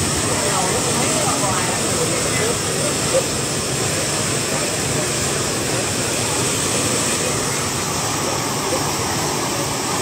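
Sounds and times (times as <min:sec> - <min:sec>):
water jet gushing and splashing: 0:00.0 - 0:10.0.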